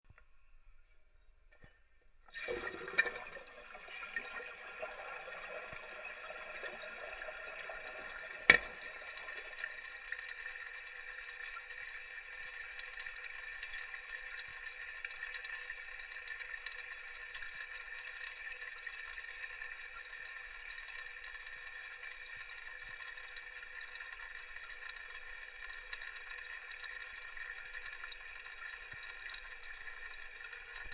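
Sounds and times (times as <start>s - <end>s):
toilet flushing: 2.3s - 30.9s
water running into tank: 2.3s - 30.9s.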